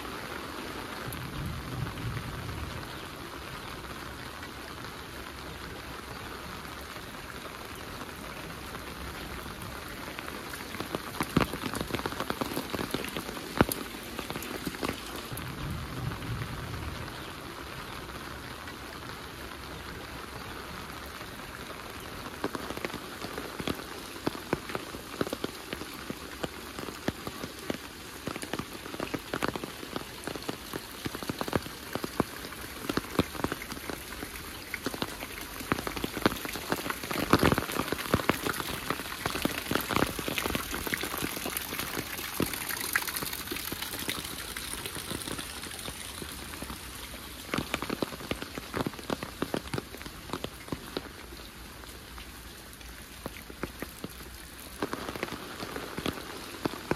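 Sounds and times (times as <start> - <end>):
heavy rain falling: 0.0 - 56.9
sharp close raindrops: 0.0 - 56.9.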